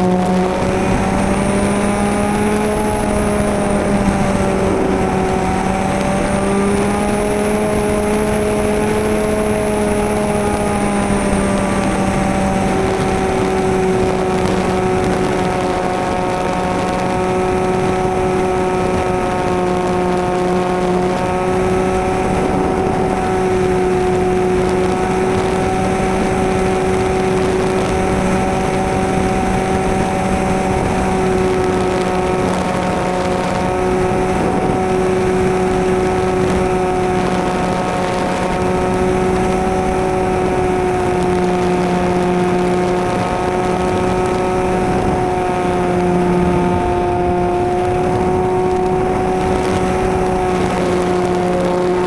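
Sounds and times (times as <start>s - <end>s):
model plane motor drone: 0.0s - 52.0s.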